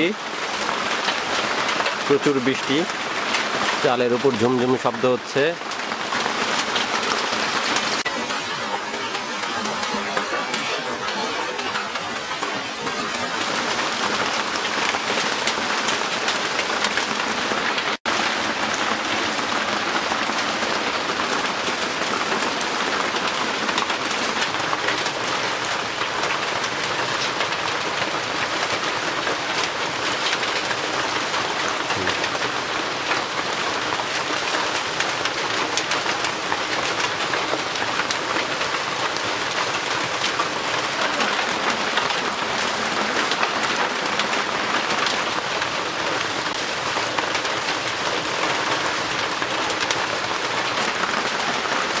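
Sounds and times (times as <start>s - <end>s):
heavy rain on a roof: 0.0s - 52.0s.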